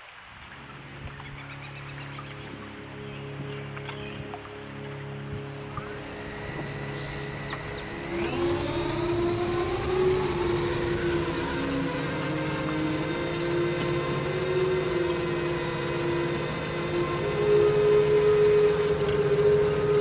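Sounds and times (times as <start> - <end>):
drone motors whining: 0.7 - 20.0.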